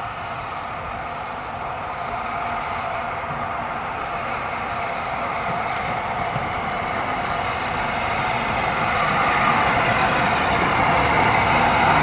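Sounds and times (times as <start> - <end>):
steam locomotive approaching: 0.0 - 12.0.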